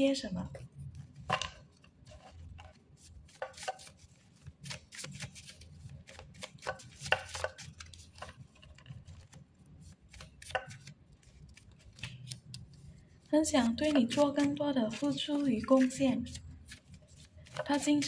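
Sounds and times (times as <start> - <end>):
cards handled on a table: 0.6 - 12.9, 13.6 - 18.0.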